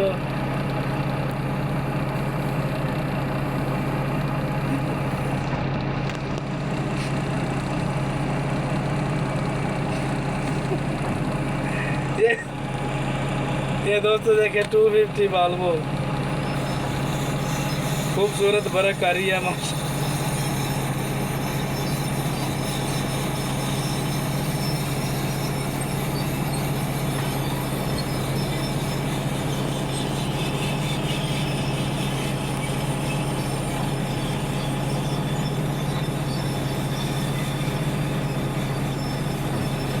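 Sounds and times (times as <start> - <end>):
excavator diesel engine humming: 0.0 - 40.0.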